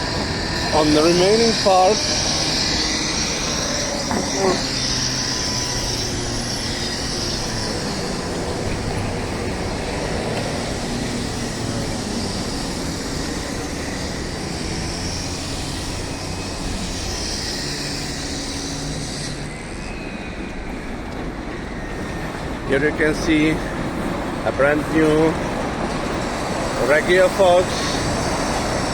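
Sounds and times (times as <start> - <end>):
faint high whine: 0.0 - 25.6
train rumbling past: 0.0 - 28.9.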